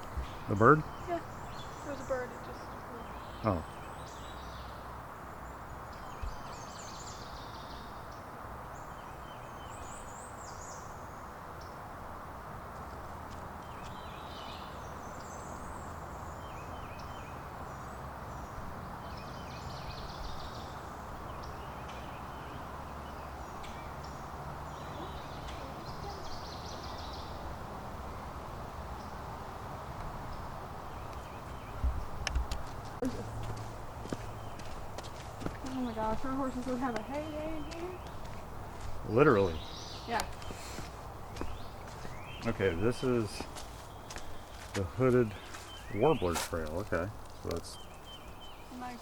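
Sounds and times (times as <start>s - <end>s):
background hiss: 0.0s - 49.0s
songbirds singing: 0.0s - 49.0s.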